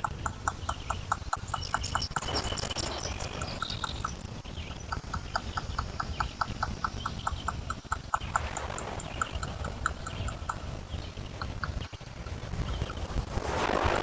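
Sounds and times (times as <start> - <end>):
faint bird chirps: 0.0 - 13.8
fast even clicking: 0.0 - 14.0.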